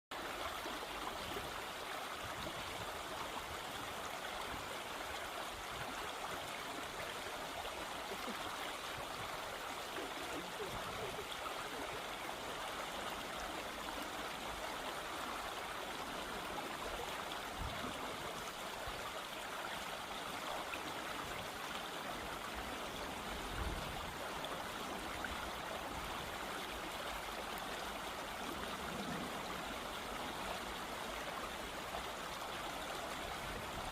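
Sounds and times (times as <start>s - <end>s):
flowing stream water: 0.1s - 33.9s.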